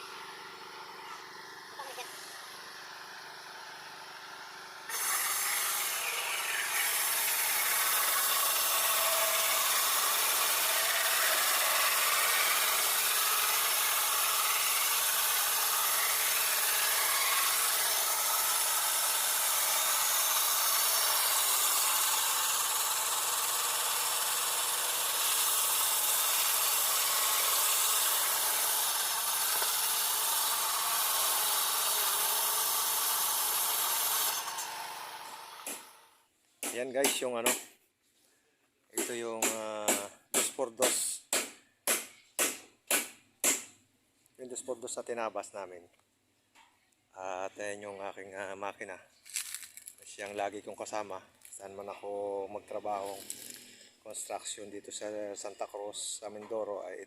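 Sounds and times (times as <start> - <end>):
power saw cutting wood: 0.0 - 37.6, 39.0 - 43.6, 52.0 - 56.8.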